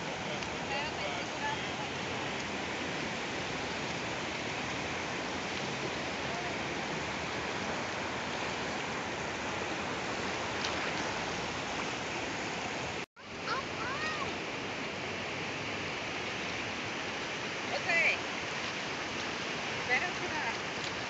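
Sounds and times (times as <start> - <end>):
rain: 0.0 - 21.0
surf on a sandy beach: 0.0 - 21.0.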